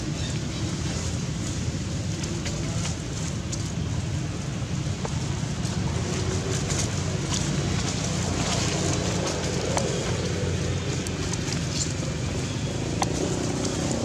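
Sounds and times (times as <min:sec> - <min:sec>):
dry leaves rustling: 0:00.1 - 0:14.0.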